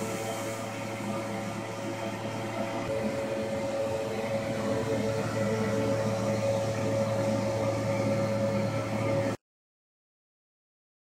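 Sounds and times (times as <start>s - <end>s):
blower fan motor humming: 0.0s - 9.4s.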